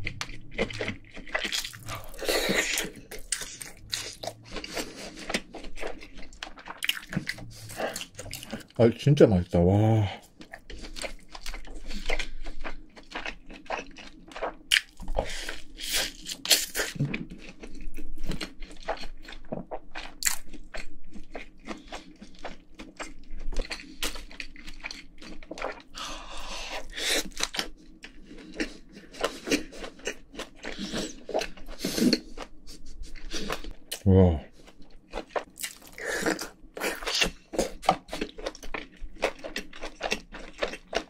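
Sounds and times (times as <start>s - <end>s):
person chewing: 0.0s - 8.8s, 10.0s - 41.0s.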